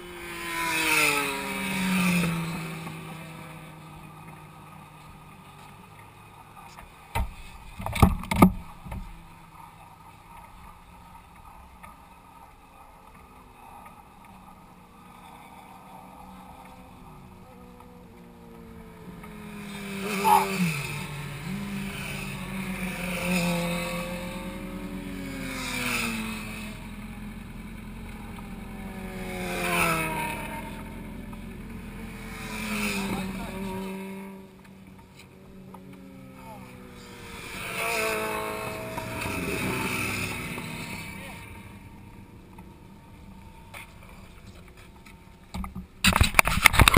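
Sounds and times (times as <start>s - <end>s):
motorcycles passing: 0.0s - 46.9s.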